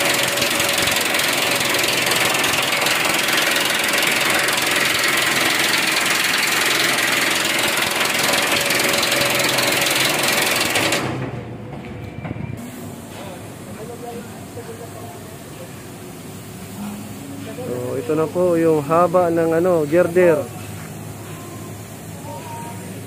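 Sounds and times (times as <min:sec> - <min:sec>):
construction machinery droning: 0:00.0 - 0:23.0.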